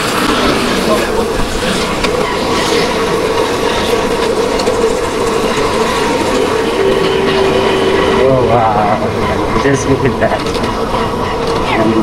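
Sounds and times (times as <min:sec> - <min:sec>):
steady drone: 0:00.0 - 0:12.0.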